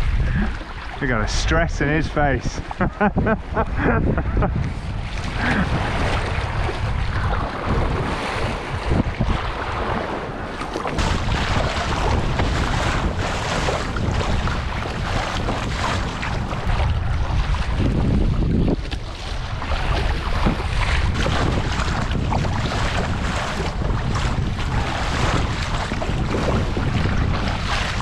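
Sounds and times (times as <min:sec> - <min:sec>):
paddle blades splashing: 0:00.0 - 0:28.0
water slapping against kayak: 0:00.0 - 0:28.0
wind buffeting microphone: 0:00.0 - 0:28.0.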